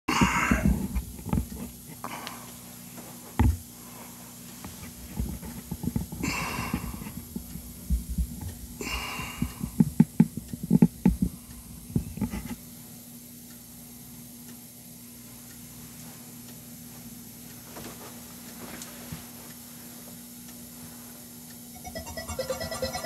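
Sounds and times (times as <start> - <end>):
steady low hum: 0.1 - 23.0.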